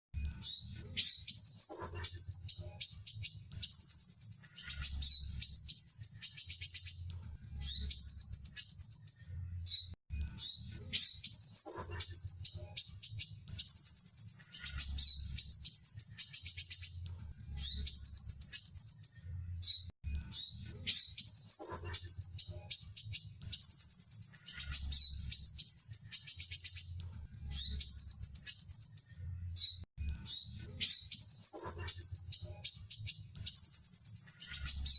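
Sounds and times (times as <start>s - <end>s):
bird chattering song: 0.4s - 34.9s.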